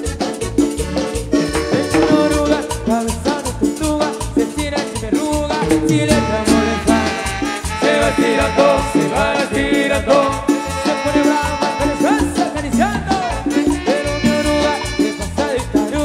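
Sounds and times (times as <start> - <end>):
latin dance-band music: 0.0 - 16.0.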